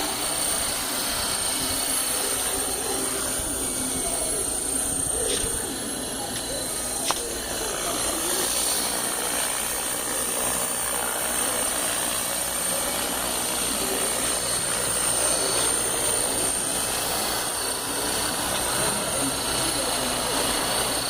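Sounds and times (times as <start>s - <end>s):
model helicopter motor whine: 0.0s - 21.0s
rotor blades rushing: 0.0s - 21.0s.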